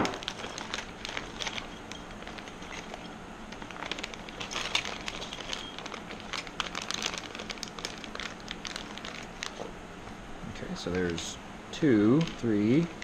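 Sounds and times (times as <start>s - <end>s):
plastic bags crinkling: 0.0s - 9.7s, 12.0s - 13.0s.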